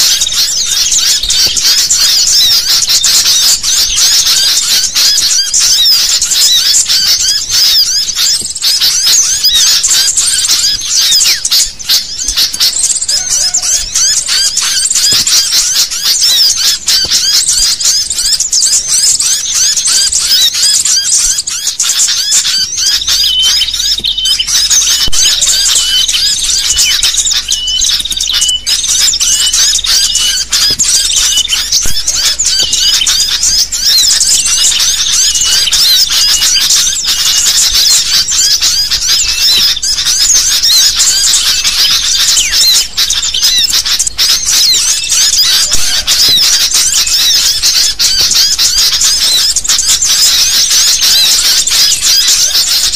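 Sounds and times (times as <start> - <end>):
birds chirping in chorus: 0.0 - 52.9.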